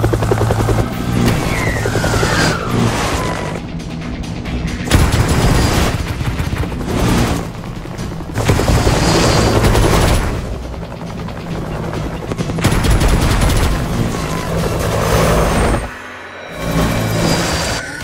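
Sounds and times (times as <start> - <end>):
action soundtrack music: 0.0 - 18.0.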